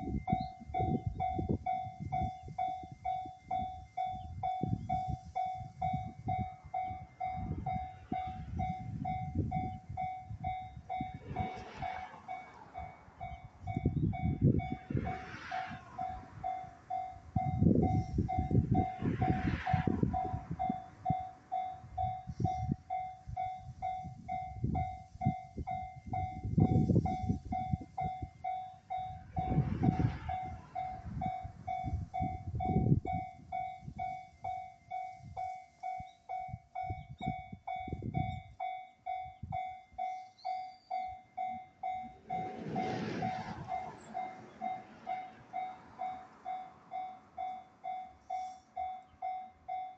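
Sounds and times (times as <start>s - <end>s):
level-crossing warning bell ringing: 0.0s - 49.9s.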